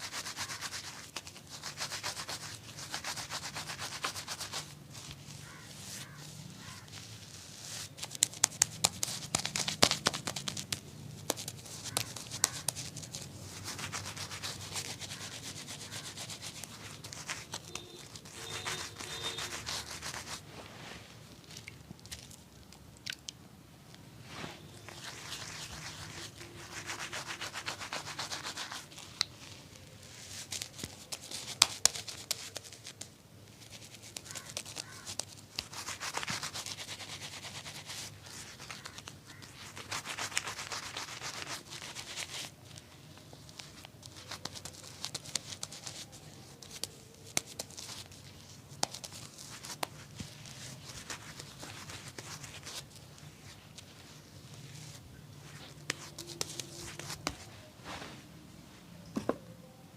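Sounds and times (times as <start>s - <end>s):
rubbing on skin and hair: 0.0s - 22.4s, 24.2s - 58.4s.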